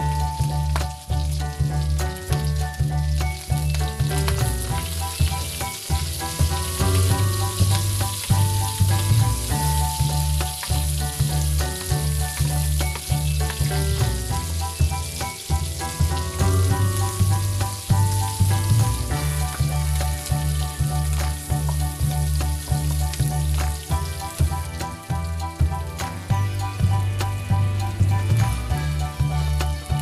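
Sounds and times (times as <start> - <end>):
background music with bass line: 0.0 - 30.0
meat and onion sizzling in wok: 0.0 - 30.0.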